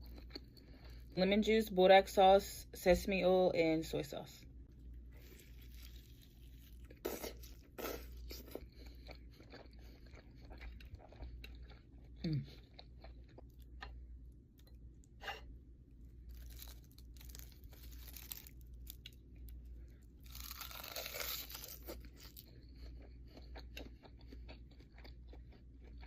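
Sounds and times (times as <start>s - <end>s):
crackly eating sounds: 0.0s - 1.2s, 4.6s - 26.0s
crunching and chewing: 0.0s - 1.2s, 4.7s - 26.0s.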